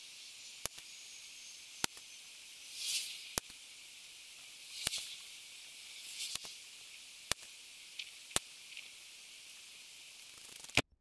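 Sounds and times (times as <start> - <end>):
short air hiss: 0.0 - 10.8.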